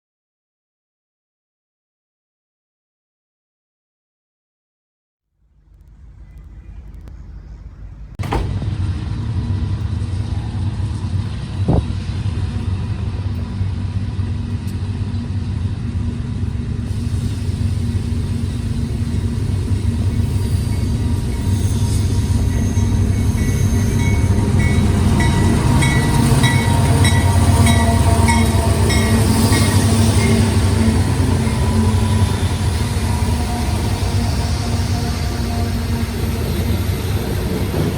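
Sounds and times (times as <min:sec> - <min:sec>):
diesel locomotive rumble: 0:05.5 - 0:37.9.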